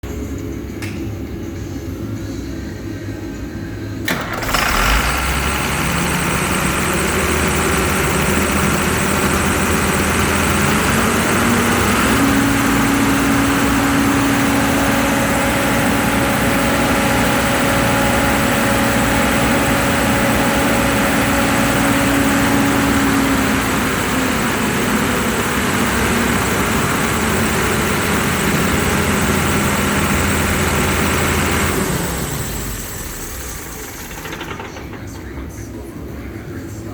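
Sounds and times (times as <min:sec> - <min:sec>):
engine idling and revving: 0:04.0 - 0:35.9.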